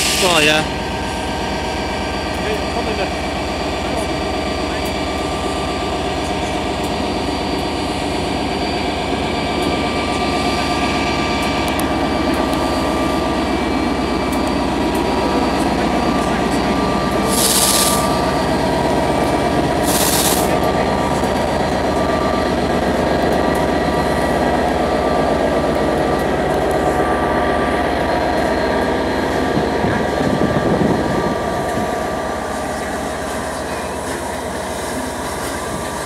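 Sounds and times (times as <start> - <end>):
diesel locomotive engine rumble: 0.0 - 36.0
steam locomotive steam: 0.0 - 36.0.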